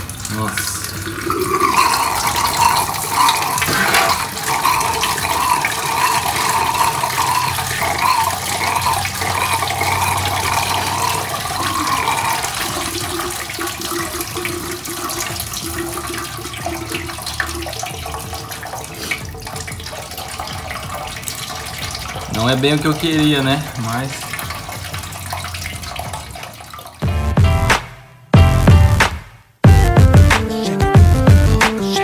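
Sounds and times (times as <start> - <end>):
liquid splashing into metal basin: 0.0 - 27.0.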